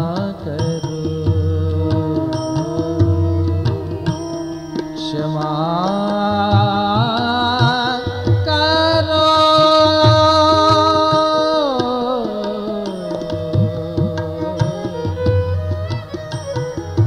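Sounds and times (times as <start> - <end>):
devotional singing: 0.0 - 15.1
tabla beat: 0.0 - 17.0.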